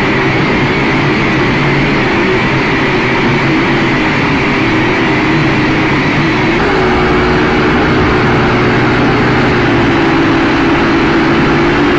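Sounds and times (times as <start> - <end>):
drone propellers buzzing: 2.3 - 11.9.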